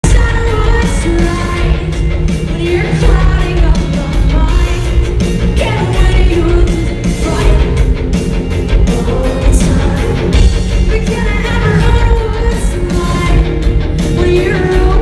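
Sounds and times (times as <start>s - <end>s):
person singing: 0.0s - 8.0s, 8.8s - 15.0s
electric guitars: 0.0s - 15.0s.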